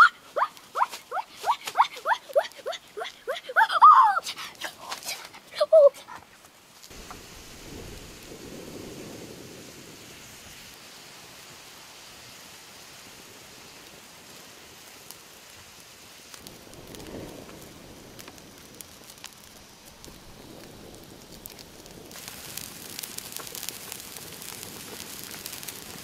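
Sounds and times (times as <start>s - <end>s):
sharp pops over steady hiss: 0.0s - 3.1s, 4.4s - 26.0s
wood fire crackling: 0.0s - 26.0s.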